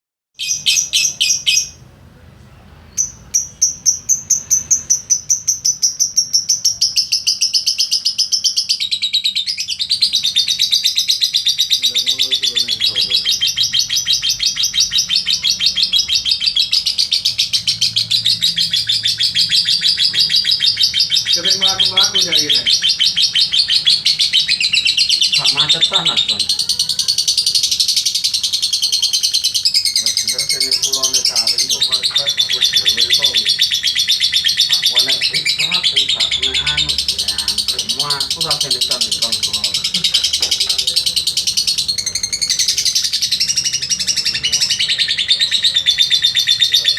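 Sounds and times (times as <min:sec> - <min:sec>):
lovebird chattering trill: 0:00.4 - 0:01.8, 0:02.9 - 0:46.9.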